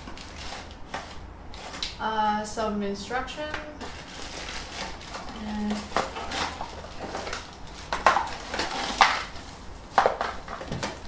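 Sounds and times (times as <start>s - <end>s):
plastic bags crinkling: 0.0s - 2.0s, 3.8s - 11.0s.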